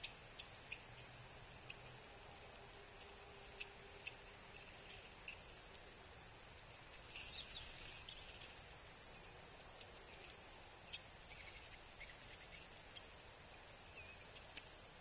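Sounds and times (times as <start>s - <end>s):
faint outdoor hush: 0.0s - 15.0s
small birds chirping: 0.0s - 15.0s.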